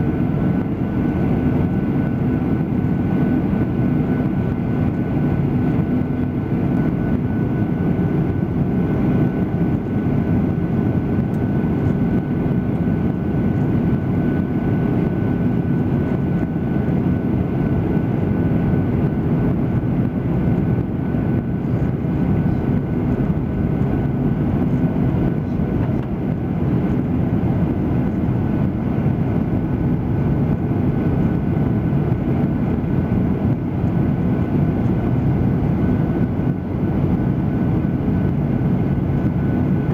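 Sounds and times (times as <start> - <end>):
airliner engines droning: 0.0 - 39.9.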